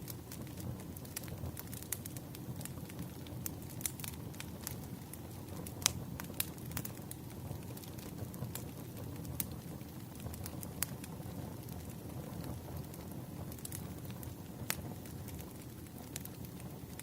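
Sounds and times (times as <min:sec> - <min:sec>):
burning logs crackling: 0:00.0 - 0:17.0
low rush of flame: 0:00.0 - 0:17.0.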